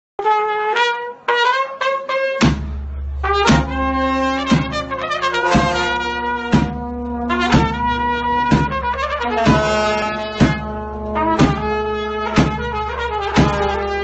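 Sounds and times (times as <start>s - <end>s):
brass band playing: 0.2s - 14.0s
trumpet melody: 0.2s - 14.0s
sustained low bass: 2.5s - 14.0s.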